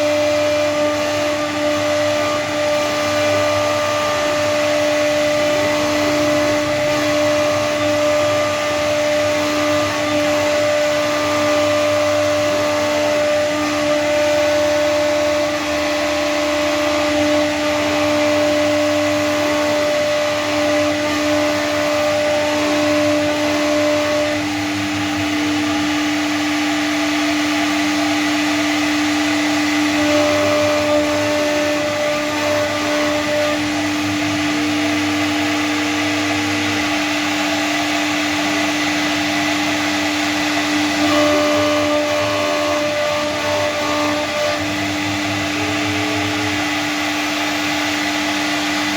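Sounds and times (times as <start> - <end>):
cnc router spindle whine: 0.0 - 48.9.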